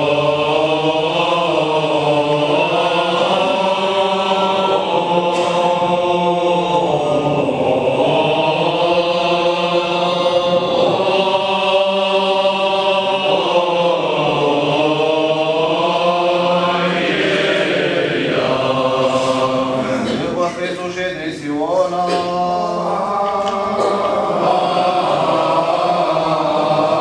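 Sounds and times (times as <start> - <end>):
men's choir chanting a hymn: 0.0 - 27.0.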